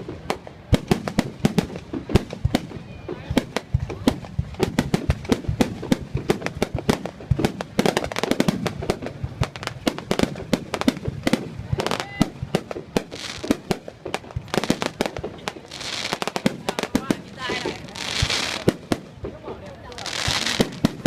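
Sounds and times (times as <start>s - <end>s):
fireworks banging: 0.0s - 21.0s
hissing crackle of fireworks: 0.0s - 21.0s.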